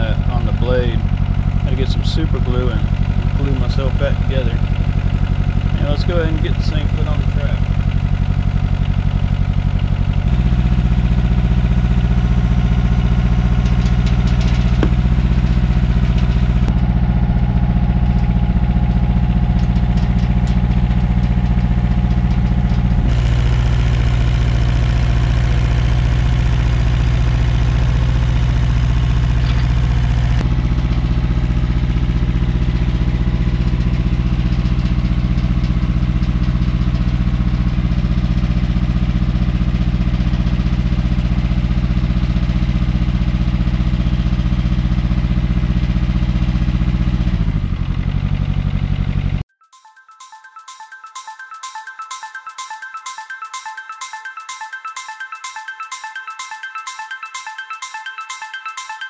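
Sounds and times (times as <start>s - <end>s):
excavator engine running: 0.0s - 49.4s.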